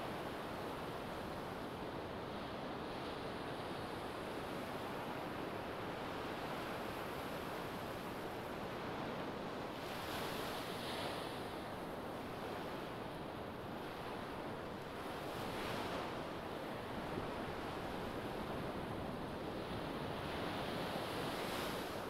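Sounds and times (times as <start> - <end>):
waves breaking on a sandy beach: 0.0 - 22.0.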